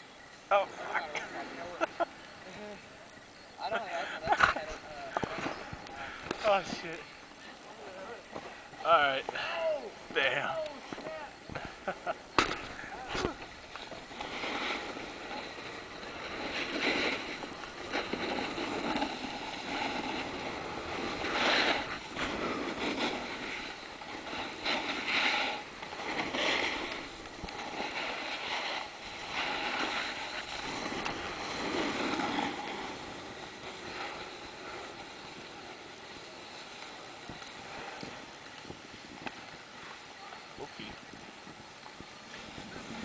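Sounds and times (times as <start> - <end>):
sliding over packed snow: 0.0 - 43.0.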